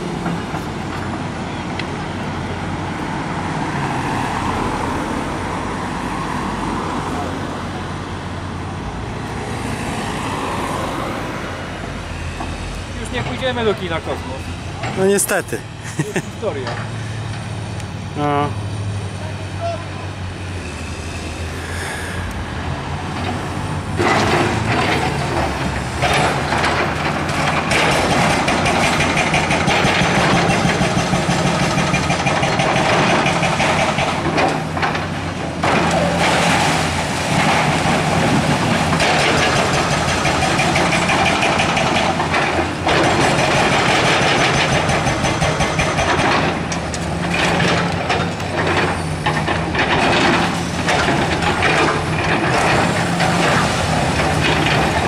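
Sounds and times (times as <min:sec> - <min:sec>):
diesel excavators running: 0:00.0 - 0:55.0.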